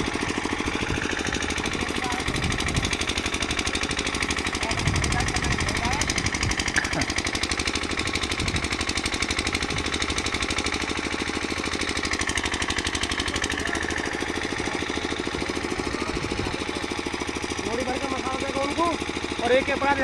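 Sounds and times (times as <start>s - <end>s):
small engine pulsing: 0.0s - 20.0s.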